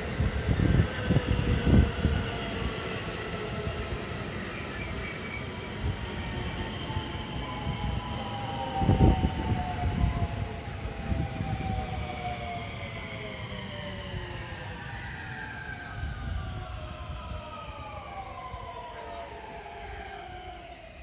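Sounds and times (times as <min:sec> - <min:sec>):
train rumbling over rails: 0:00.0 - 0:21.0.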